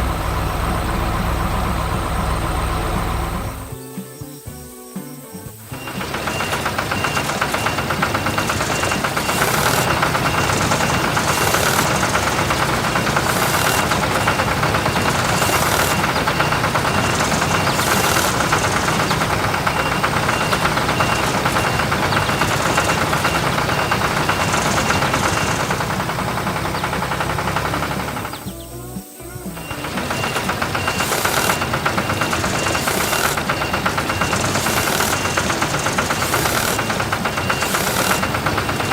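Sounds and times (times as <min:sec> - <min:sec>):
motor with rapid knocking: 0:00.0 - 0:03.8, 0:05.8 - 0:28.5, 0:29.6 - 0:38.9.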